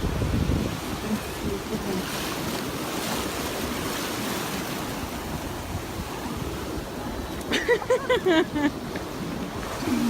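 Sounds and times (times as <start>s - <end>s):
ocean surf washing ashore: 0.0s - 10.0s
wind on microphone: 0.0s - 10.0s.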